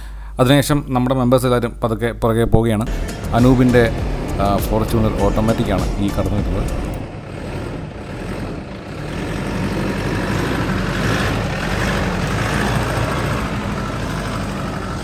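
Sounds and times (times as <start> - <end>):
car engine climbing: 2.8 - 15.0.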